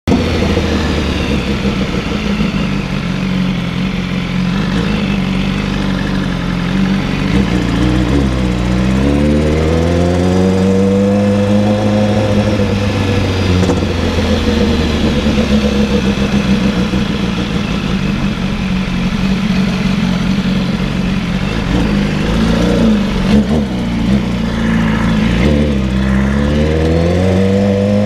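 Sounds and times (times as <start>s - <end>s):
engine with loud exhaust: 0.0s - 28.0s.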